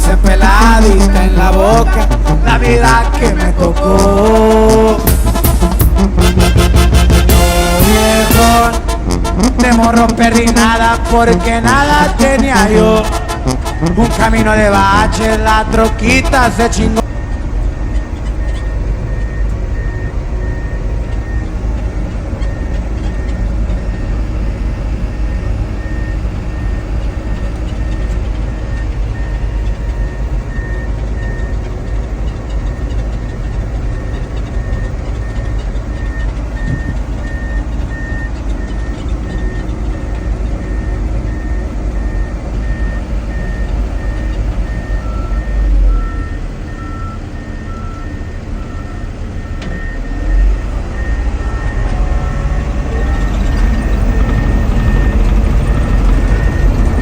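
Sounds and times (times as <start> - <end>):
bulldozer engine running: 0.0 - 57.0
reversing alarm beeping: 0.0 - 57.0
lower-pitched backup alarm beeping: 5.9 - 57.0.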